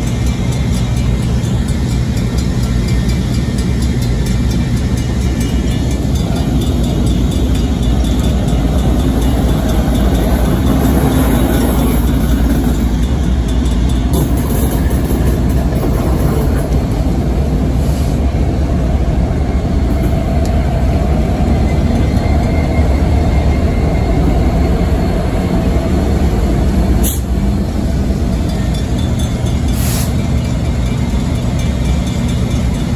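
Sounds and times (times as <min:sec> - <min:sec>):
diesel locomotive engines rumbling: 0:00.0 - 0:32.9.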